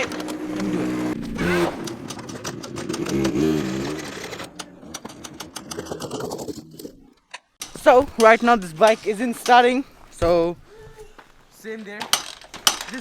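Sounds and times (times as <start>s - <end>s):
dirt bike engine cranking: 0.0s - 13.0s.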